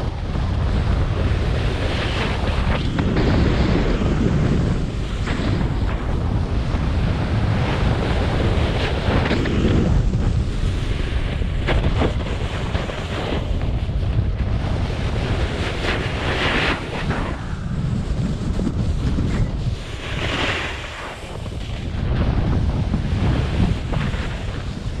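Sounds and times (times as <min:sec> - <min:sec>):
snowboard scraping over snow: 0:00.0 - 0:25.0
wind buffeting microphone: 0:00.0 - 0:25.0.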